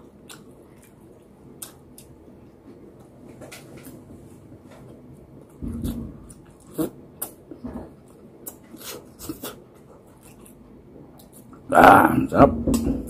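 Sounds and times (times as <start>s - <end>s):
man chewing food: 0.0s - 11.7s.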